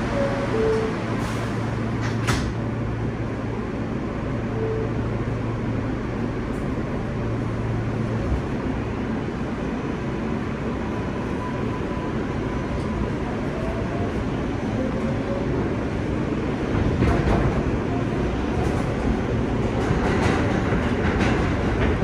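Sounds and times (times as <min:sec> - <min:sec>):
subway train rumble: 0:00.0 - 0:22.0.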